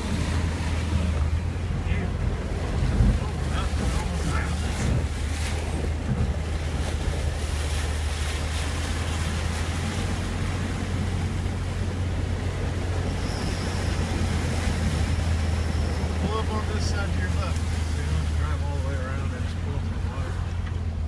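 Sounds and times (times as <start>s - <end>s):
vehicle engine drone: 0.0s - 21.0s
water washing under wheels: 0.0s - 21.0s.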